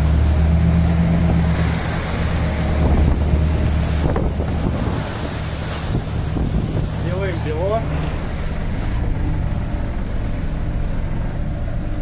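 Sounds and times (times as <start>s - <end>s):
motorboat engine drone: 0.0s - 12.0s
waves washing against hull: 0.0s - 12.0s
wind buffeting microphone: 1.2s - 12.0s.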